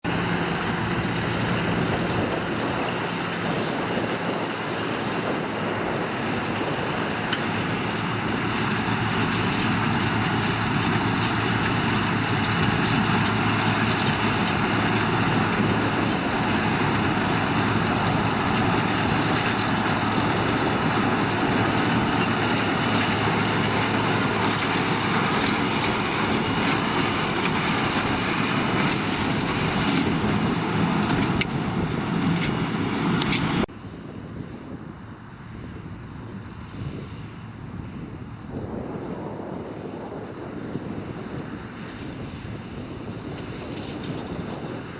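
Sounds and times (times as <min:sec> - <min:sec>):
farm machinery drone: 0:00.0 - 0:44.9.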